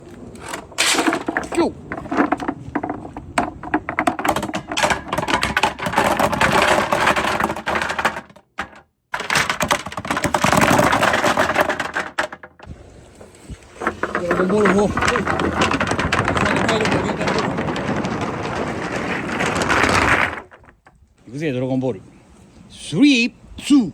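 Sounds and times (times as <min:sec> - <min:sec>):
marbles rolling down wooden run: 0:00.4 - 0:12.7, 0:13.8 - 0:20.9.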